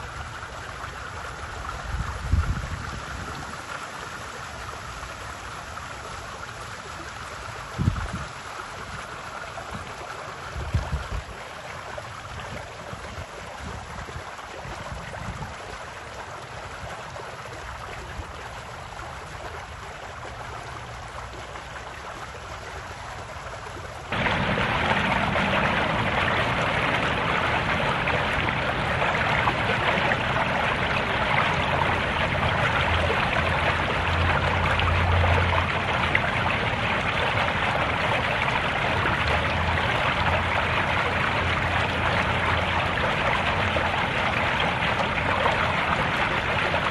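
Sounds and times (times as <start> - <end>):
pool water washing: 0.0 - 46.9
water splashing and trickling: 0.0 - 46.9.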